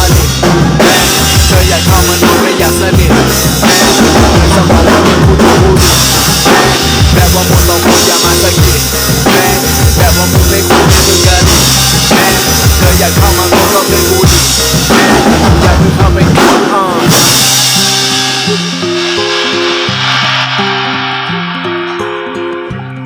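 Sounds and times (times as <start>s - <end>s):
drum kit playing: 0.0s - 23.0s
hip-hop backing track: 0.0s - 23.0s.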